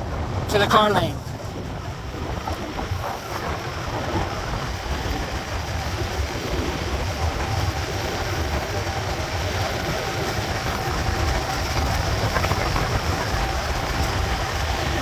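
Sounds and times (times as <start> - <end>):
wind rushing over microphone: 0.0 - 15.0
bike tyres rolling on pavement: 1.2 - 15.0.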